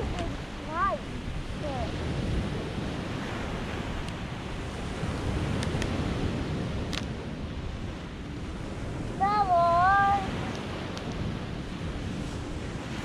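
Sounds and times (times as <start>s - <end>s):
waves breaking on shore: 0.0s - 13.0s
wind rumbling on microphone: 0.0s - 13.0s.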